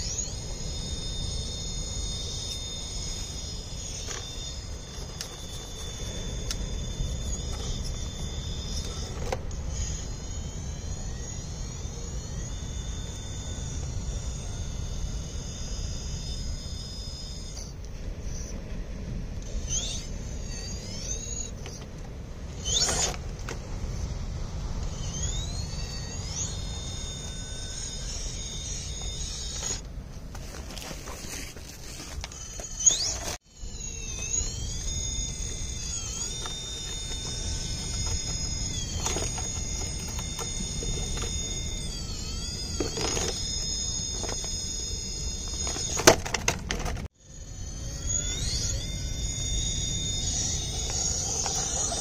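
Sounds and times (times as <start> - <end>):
electric motor and gear whine: 0.0 - 52.0.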